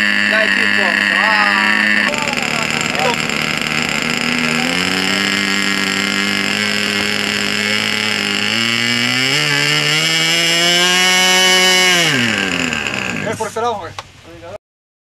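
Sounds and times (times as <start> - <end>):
model airplane engine running: 0.0 - 13.8.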